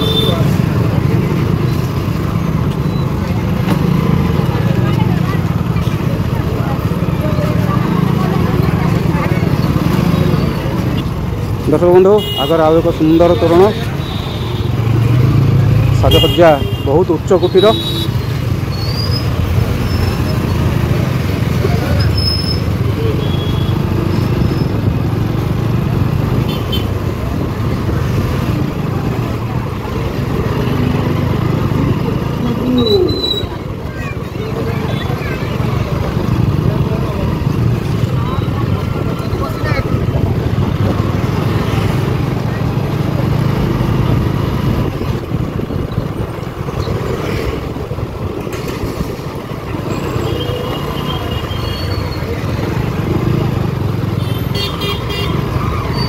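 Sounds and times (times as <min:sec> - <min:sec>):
motorcycle engine rumble: 0:00.0 - 0:56.0
road noise: 0:00.0 - 0:56.0
traffic noise: 0:00.0 - 0:56.0.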